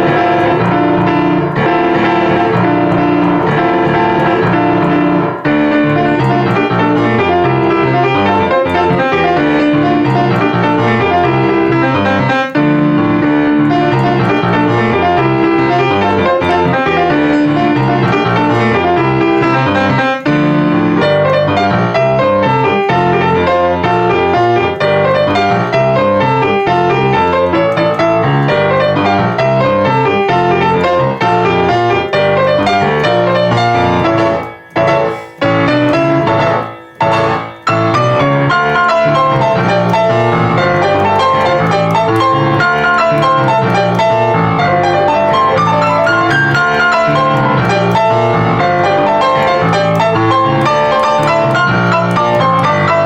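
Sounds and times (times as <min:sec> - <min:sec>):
fast solo piano: 0:00.0 - 0:53.0.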